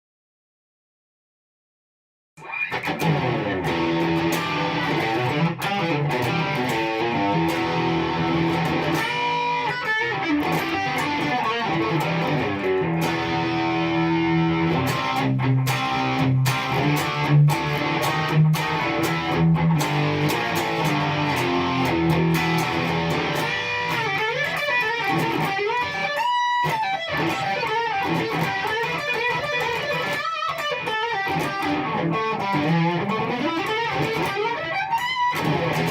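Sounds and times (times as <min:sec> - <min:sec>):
overdriven electric guitar lead: 0:02.4 - 0:35.9.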